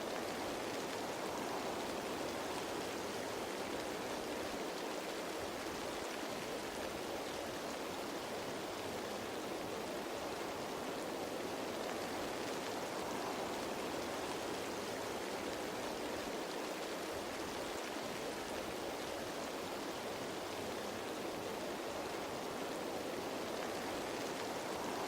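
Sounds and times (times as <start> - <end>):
rain falling on leaves: 0.0 - 25.0.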